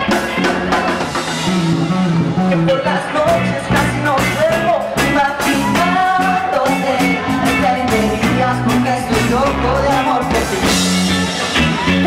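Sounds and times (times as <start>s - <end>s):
live funk-rock band playing: 0.0s - 12.0s.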